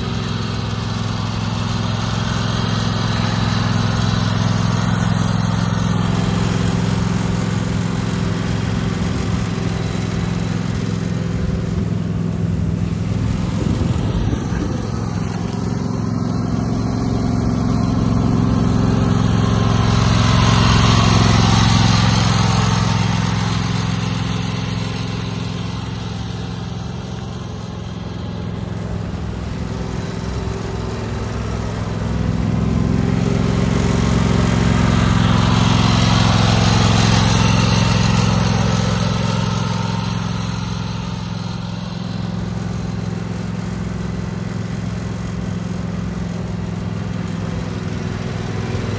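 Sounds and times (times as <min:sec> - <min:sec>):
garden tractor engine running: 0:00.0 - 0:48.9.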